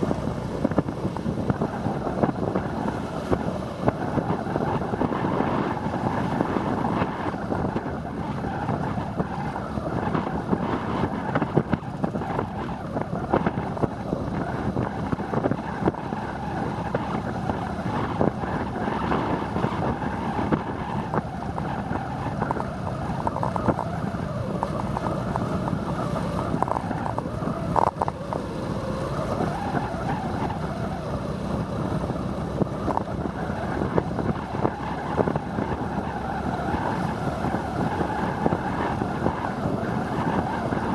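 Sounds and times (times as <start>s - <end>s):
passing traffic: 0.0s - 40.9s
wind noise on microphone: 0.0s - 40.9s.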